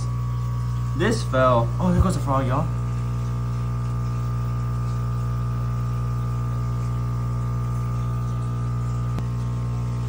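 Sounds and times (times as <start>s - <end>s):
aquarium pump humming: 0.0s - 10.0s.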